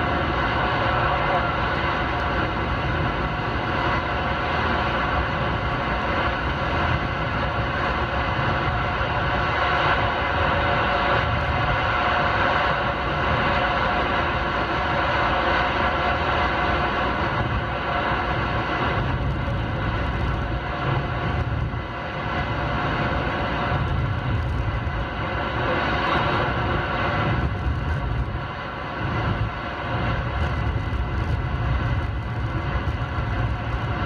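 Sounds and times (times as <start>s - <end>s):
road and tyre noise: 0.0s - 34.0s.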